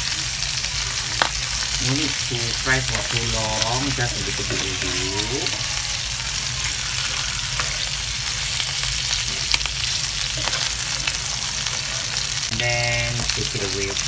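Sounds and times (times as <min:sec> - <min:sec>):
fish fillets sizzling in a pan: 0:00.0 - 0:14.0.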